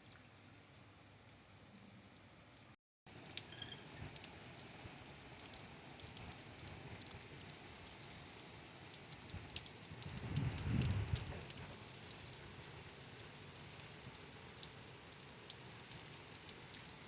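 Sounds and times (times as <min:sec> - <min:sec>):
heavy rain on hard surfaces: 0:02.1 - 0:17.0.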